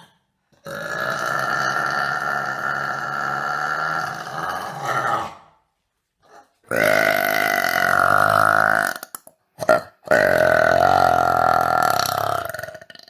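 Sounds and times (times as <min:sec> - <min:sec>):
woman burping: 0:00.0 - 0:05.2, 0:06.7 - 0:13.0.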